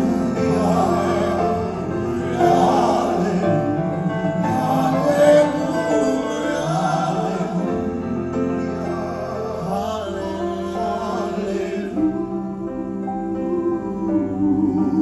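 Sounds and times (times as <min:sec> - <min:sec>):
men singing operatically: 0:00.0 - 0:15.0
musical backing: 0:00.0 - 0:15.0.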